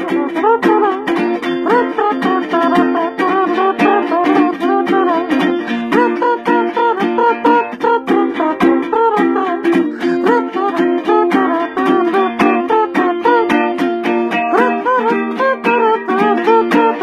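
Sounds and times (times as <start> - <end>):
man singing eefing sounds: 0.0 - 13.5, 14.5 - 17.0
ukulele strumming: 0.0 - 17.0.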